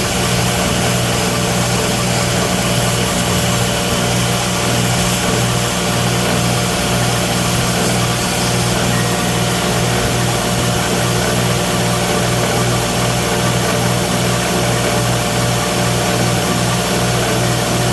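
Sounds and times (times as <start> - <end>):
electric grinder humming: 0.0 - 17.9.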